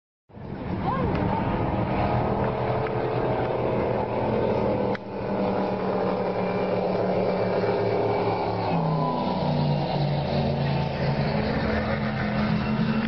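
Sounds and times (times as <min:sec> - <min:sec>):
speedboat engine droning: 0:00.3 - 0:13.0.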